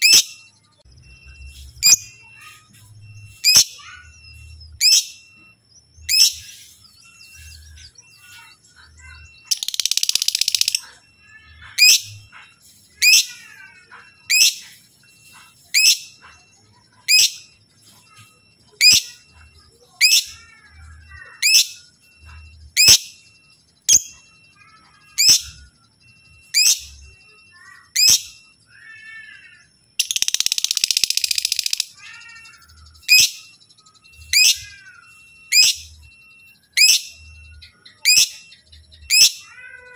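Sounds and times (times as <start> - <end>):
bird chattering trill: 0.0 - 39.9
lovebird chirping: 0.0 - 39.9.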